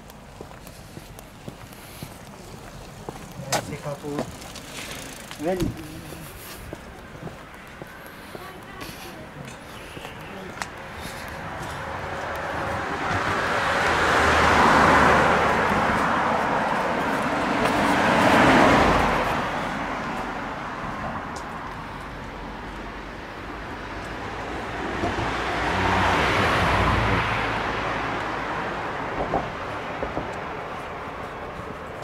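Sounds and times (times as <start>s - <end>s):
cars passing on a bridge: 0.0s - 32.0s.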